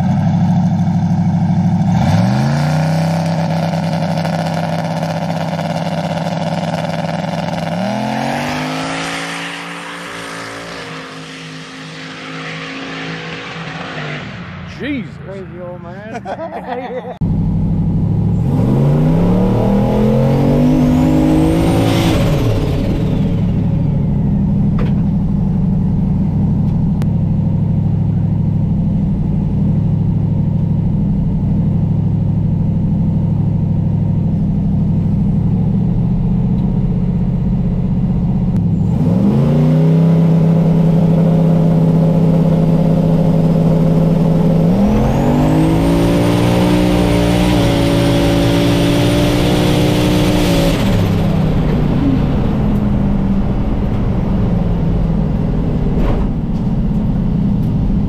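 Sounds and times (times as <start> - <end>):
truck engine revving: 0.0 - 27.0, 34.7 - 58.0
high turbo whine: 0.0 - 58.0.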